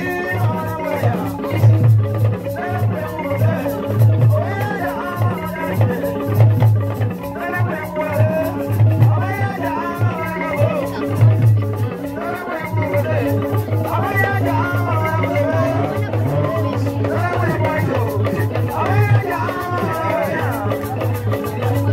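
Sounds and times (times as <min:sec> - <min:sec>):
repeating drum beat: 0:00.0 - 0:21.9
voices singing: 0:00.0 - 0:21.9.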